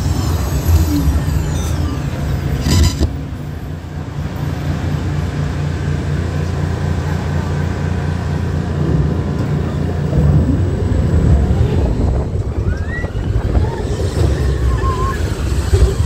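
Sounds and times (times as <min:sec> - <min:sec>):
ride vehicle rumbling on track: 0:00.0 - 0:16.0.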